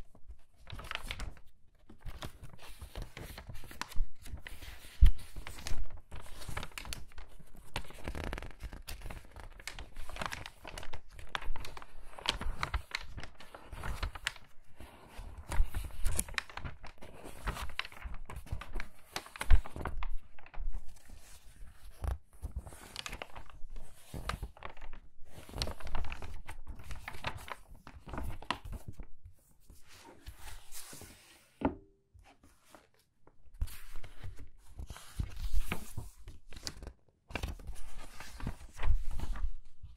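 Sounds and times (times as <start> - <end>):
magazine pages turning: 0.2 - 31.5, 32.2 - 39.9.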